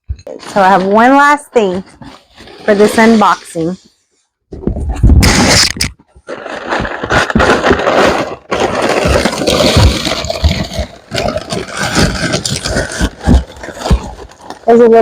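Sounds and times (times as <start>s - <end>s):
packing material rustling: 0.1s - 15.0s.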